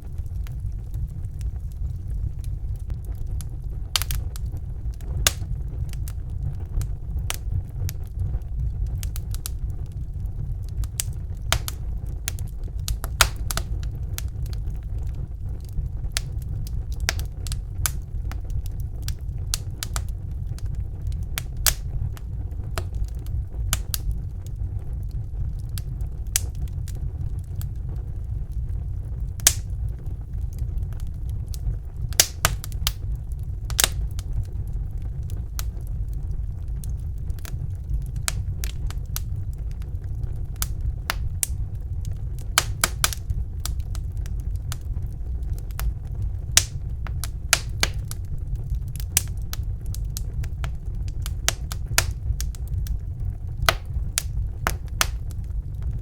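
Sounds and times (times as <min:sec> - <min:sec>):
fire crackling and popping: 0:00.0 - 0:56.0
low rumble of fire: 0:00.0 - 0:56.0.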